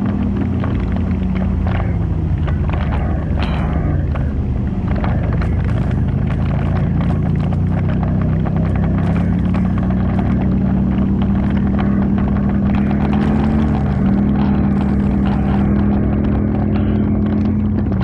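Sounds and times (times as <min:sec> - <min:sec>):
atv engine running: 0:00.0 - 0:18.0
knocks and rattles: 0:00.0 - 0:18.0.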